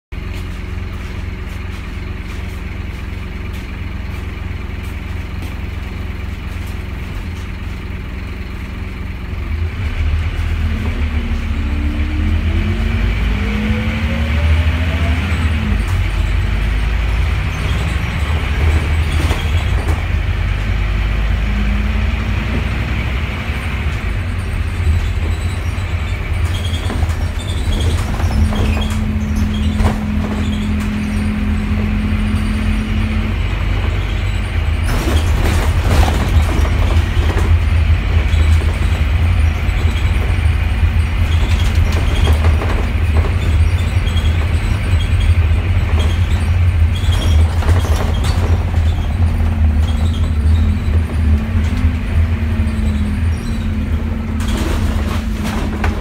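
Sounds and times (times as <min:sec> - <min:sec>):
bus diesel engine: 0:00.0 - 0:56.0
road rumble: 0:00.0 - 0:56.0.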